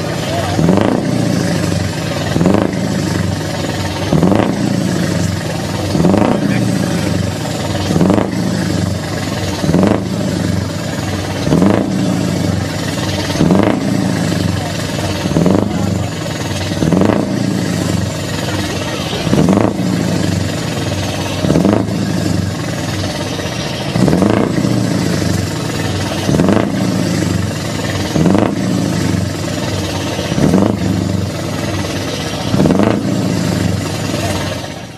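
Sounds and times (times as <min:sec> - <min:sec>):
diesel truck engine revving: 0:00.0 - 0:34.9.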